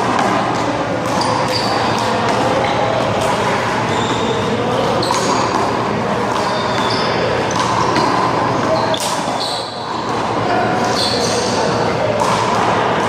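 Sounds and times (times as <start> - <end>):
faint voices: 0.0 - 13.0
steady background noise: 0.0 - 13.0.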